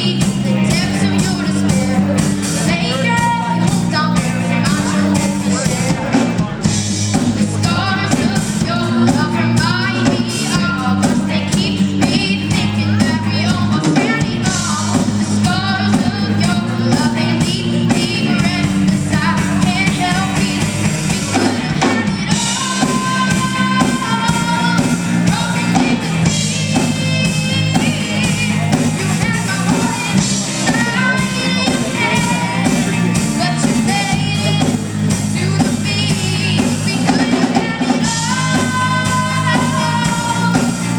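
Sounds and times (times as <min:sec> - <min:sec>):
drum kit: 0:00.0 - 0:40.9
guitar: 0:00.0 - 0:40.9
person singing: 0:00.0 - 0:40.9
rock band playing: 0:00.0 - 0:40.9.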